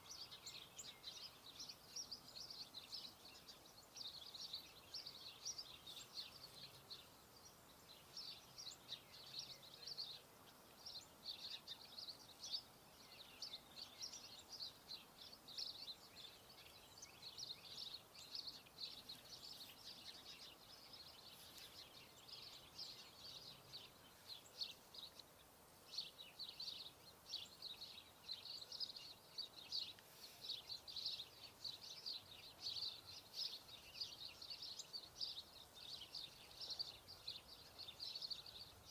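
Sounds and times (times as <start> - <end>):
low background hiss: 0.0 - 38.9
small birds chirping: 0.0 - 38.9.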